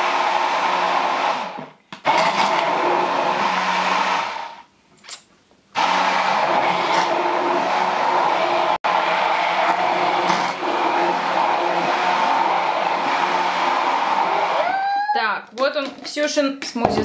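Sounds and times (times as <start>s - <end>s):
immersion blender motor: 0.0s - 4.6s, 5.8s - 14.9s.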